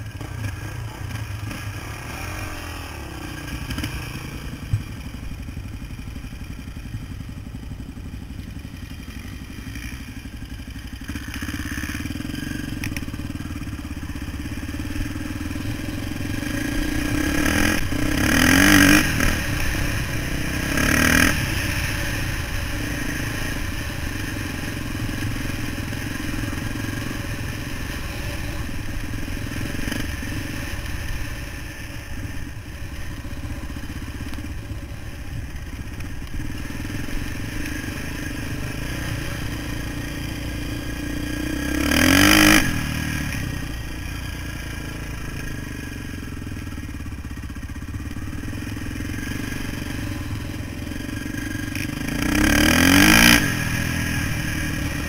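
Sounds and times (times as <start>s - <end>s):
dirt bike engine: 0.0s - 55.0s.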